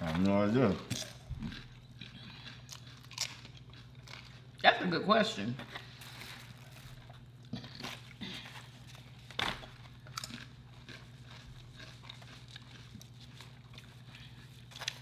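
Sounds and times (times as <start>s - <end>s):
chewing and biting: 0.0s - 4.7s, 5.6s - 15.0s
steady low hum: 0.0s - 15.0s.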